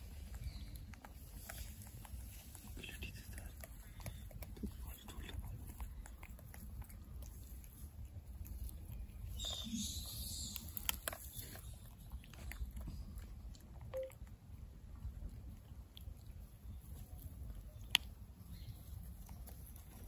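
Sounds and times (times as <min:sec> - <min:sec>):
monkey chewing and crunching nuts: 0:00.0 - 0:20.0.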